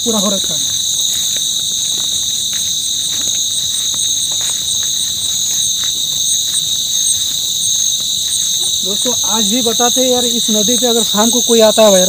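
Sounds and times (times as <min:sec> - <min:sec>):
chorus of night insects trilling: 0:00.0 - 0:12.0
insect chirping in short pulses: 0:00.0 - 0:12.0.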